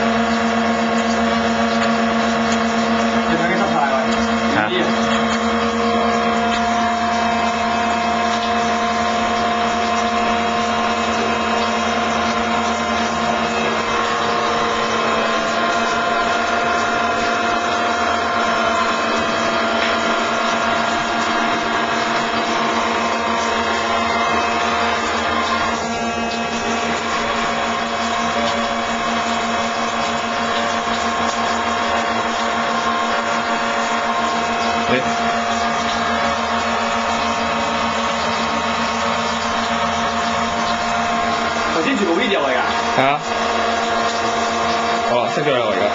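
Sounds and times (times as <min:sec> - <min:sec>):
model boat motor whine: 0:00.0 - 0:45.9
water churning hiss: 0:00.0 - 0:45.9.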